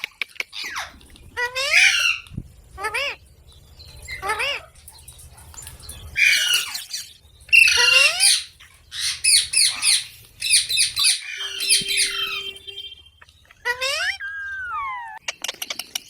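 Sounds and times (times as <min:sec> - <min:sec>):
parrots squawking: 0:00.4 - 0:03.2, 0:03.9 - 0:15.2.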